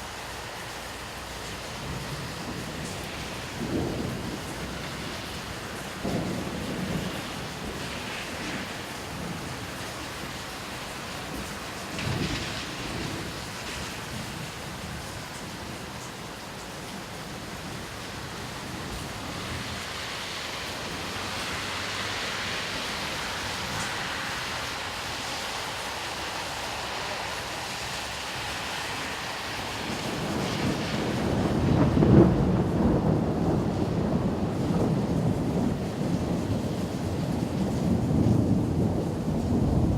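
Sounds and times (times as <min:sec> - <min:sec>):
steady rain: 0:00.0 - 0:39.9
thunder rumbling: 0:01.7 - 0:16.0, 0:17.3 - 0:39.9.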